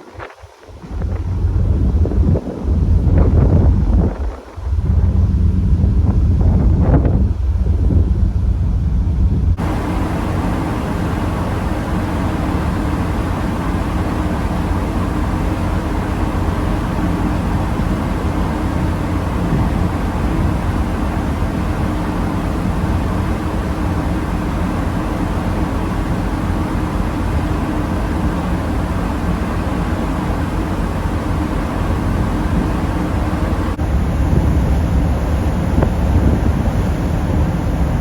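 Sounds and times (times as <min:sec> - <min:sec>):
even hum: 0:00.0 - 0:38.0
ship engine rumble: 0:00.0 - 0:38.0.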